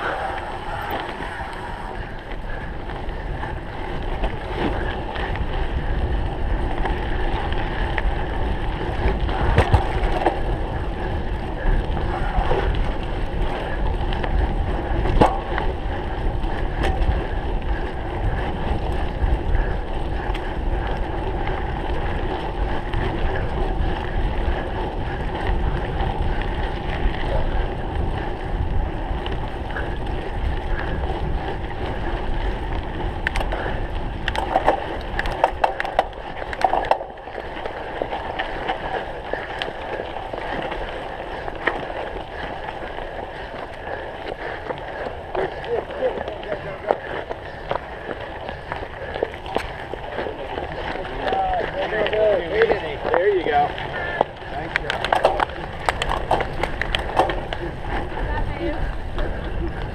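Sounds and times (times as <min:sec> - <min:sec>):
bike knocking on bumps: 0:00.0 - 0:59.9
bike rattling over rough ground: 0:00.0 - 0:59.9
wind on microphone: 0:00.0 - 0:59.9.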